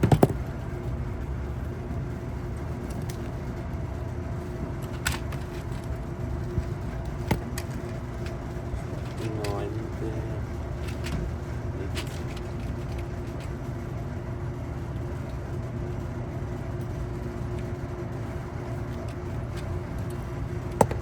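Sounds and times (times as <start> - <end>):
faint steady hum: 0.0 - 21.0
low mechanical rumble: 0.0 - 21.0.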